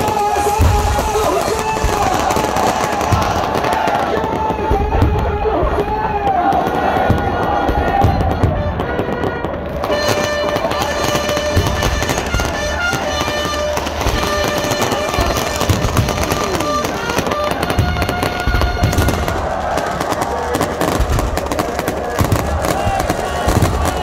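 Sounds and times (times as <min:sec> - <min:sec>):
fireworks bangs: 0:00.0 - 0:24.0
fireworks crackling and popping: 0:00.0 - 0:24.0.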